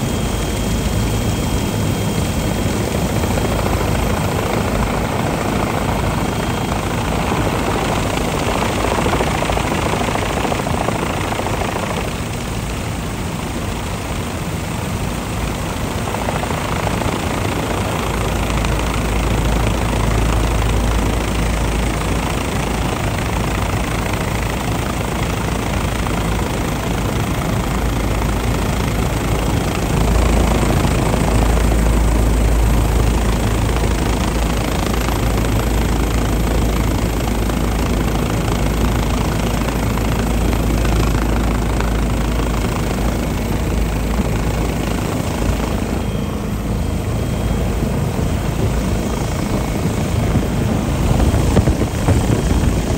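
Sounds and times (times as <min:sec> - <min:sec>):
helicopter hovering: 0:00.0 - 0:52.9.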